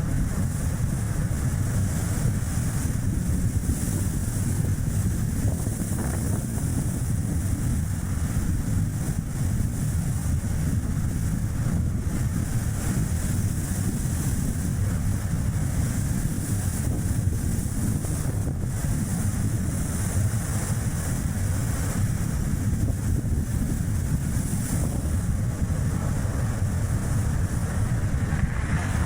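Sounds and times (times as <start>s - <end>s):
tyres rumbling on road: 0.0s - 29.0s
wind buffeting microphone: 0.0s - 29.0s.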